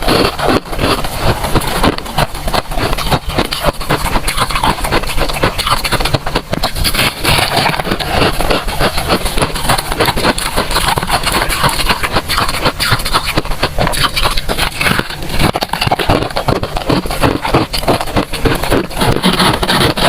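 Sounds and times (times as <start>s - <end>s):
freezer frost crunching: 0.0s - 20.0s.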